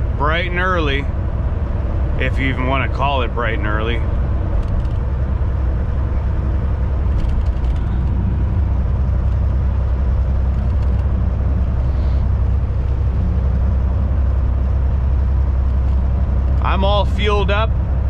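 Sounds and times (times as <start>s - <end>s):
diesel engine drone from inside cab: 0.0s - 18.0s.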